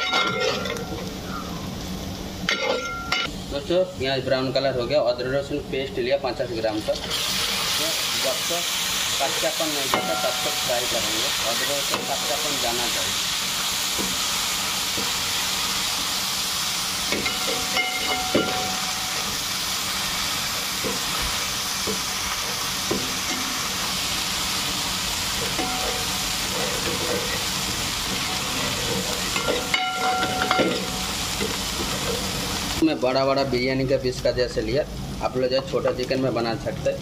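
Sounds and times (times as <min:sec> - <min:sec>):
paste and onions sizzling in oil: 0:00.0 - 0:37.0.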